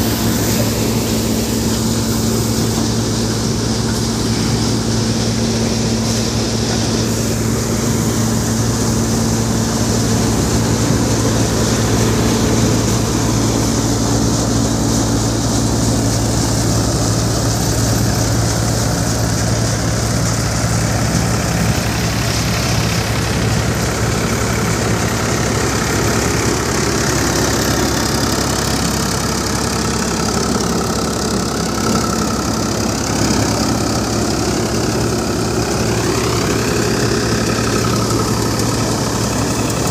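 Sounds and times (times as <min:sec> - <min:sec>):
engine hum: 0:00.0 - 0:39.9
thresher machine clatter: 0:00.0 - 0:39.9.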